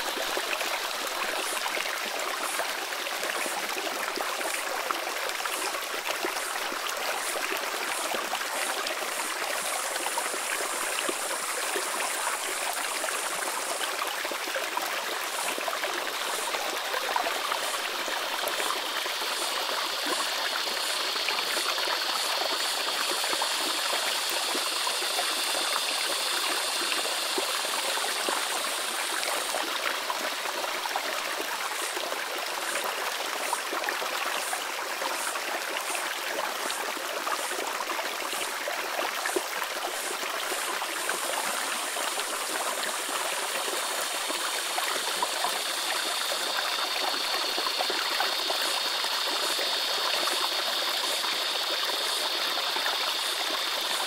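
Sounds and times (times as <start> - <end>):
cicadas buzzing: 0.0 - 54.0
creek water rushing over rocks: 0.0 - 54.0
pulsing insect chirp: 0.0 - 54.0.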